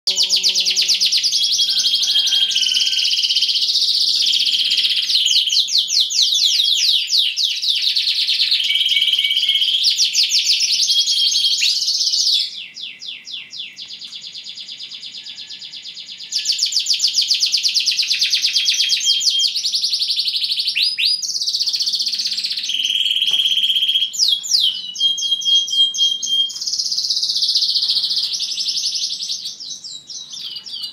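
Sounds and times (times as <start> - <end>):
canary singing trills: 0.1 - 30.9.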